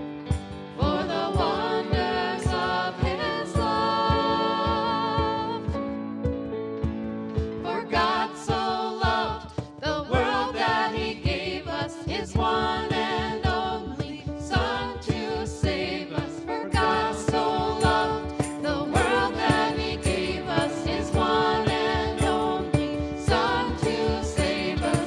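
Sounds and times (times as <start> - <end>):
grand piano: 0.0 - 25.0
group singing into microphones: 0.8 - 5.8, 7.6 - 25.0.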